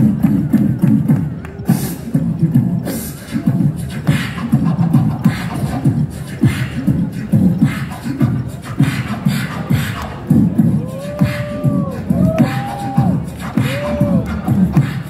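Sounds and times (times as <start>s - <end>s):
beatbox rhythm through speakers: 0.0s - 15.0s.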